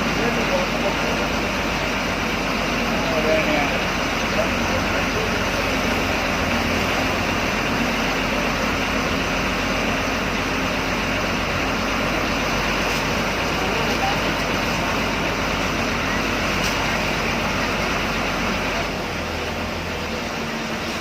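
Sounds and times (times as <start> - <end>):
diesel bus engine droning: 0.0 - 21.0.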